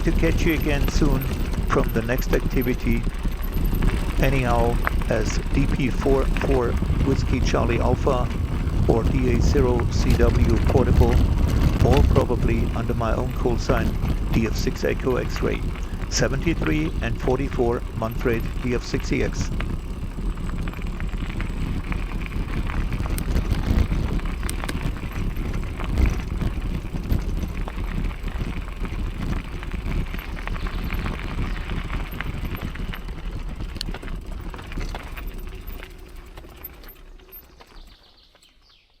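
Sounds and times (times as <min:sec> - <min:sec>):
wind rumbling on microphone: 0:00.0 - 0:36.5.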